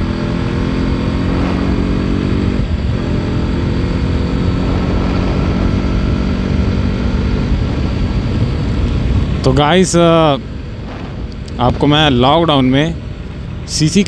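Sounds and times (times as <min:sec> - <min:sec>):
motorcycle engine accelerating: 0:00.0 - 0:13.6
wind rushing on microphone: 0:01.3 - 0:14.0.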